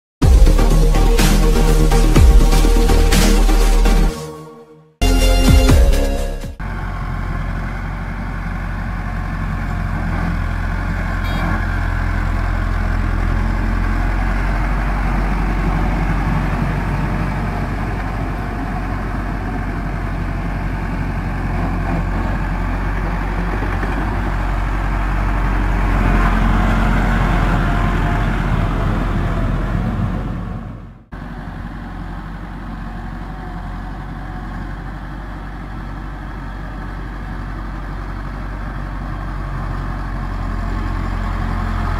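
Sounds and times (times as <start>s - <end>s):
tractor diesel engine under load: 0.2s - 4.2s, 5.0s - 41.9s.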